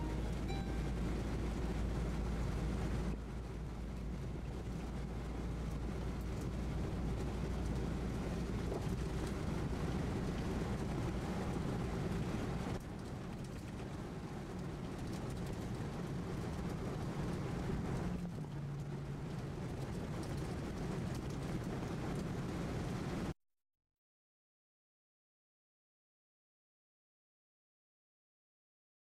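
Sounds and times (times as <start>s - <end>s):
vehicle engine hum: 0.0s - 23.3s.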